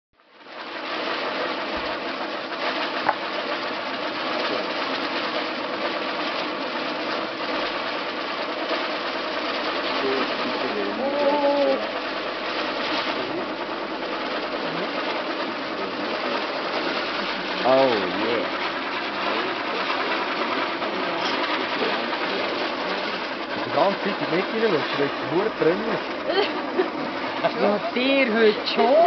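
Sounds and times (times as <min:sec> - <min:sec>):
firework fountain hissing: 0:00.2 - 0:29.0
sharp firework crack: 0:00.3 - 0:29.0.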